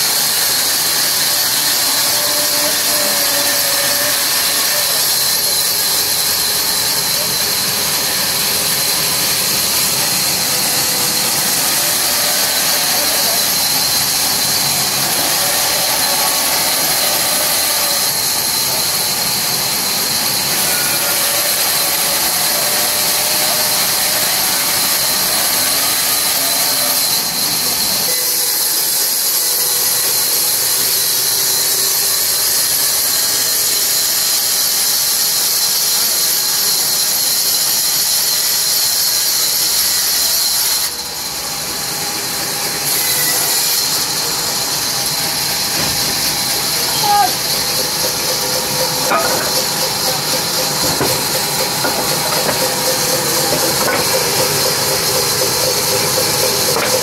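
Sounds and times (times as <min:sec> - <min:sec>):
band saw cutting log: 0:00.0 - 0:57.0.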